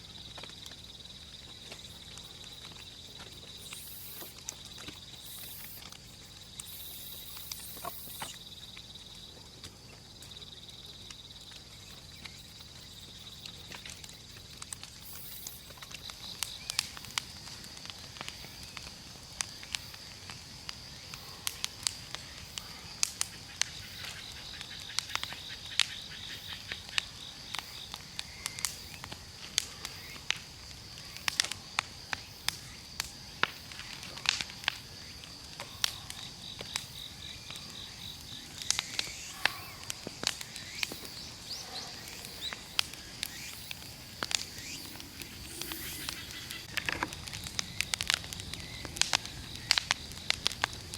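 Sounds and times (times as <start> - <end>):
bonfire crackling and popping: 0.0 - 50.9.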